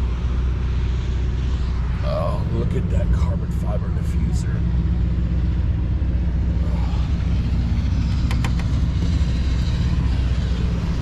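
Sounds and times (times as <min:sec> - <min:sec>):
car engine idling: 0:01.5 - 0:11.0.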